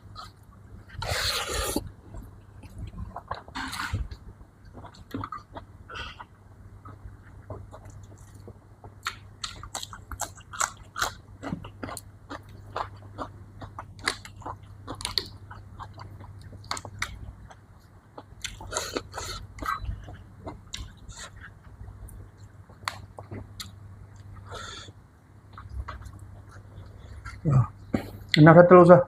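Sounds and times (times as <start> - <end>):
person chewing crisp food: 0.0 - 28.4.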